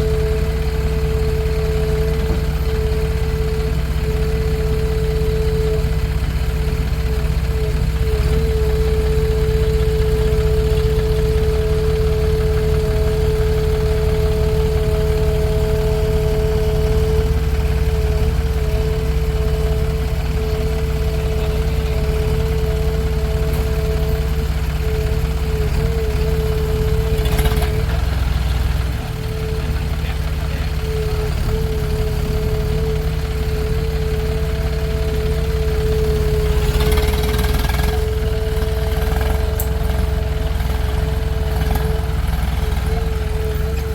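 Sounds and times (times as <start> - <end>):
diesel engine rumbling: 0.0 - 43.9
engine whine: 0.0 - 43.9.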